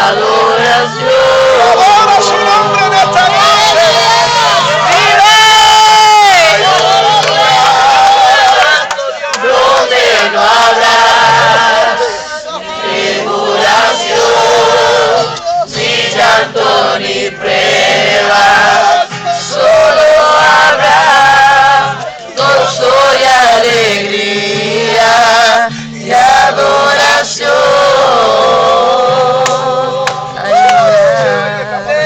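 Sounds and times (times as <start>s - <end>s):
group singing worship song: 0.0s - 32.0s.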